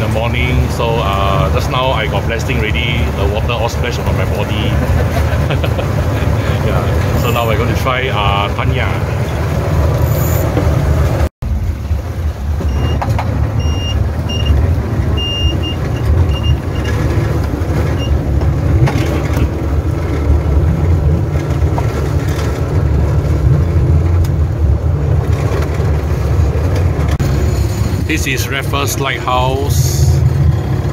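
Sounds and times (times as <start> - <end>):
boat engine drone: 0.0 - 30.9.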